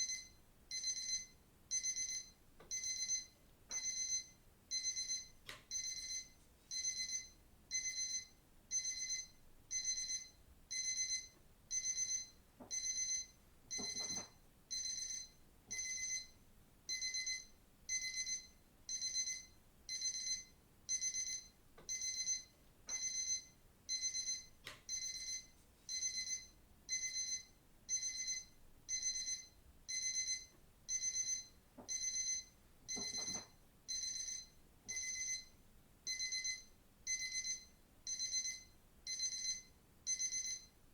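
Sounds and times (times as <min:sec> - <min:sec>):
digital watch alarm beeping: 0:00.0 - 0:16.3, 0:16.9 - 0:35.5, 0:36.1 - 0:40.7.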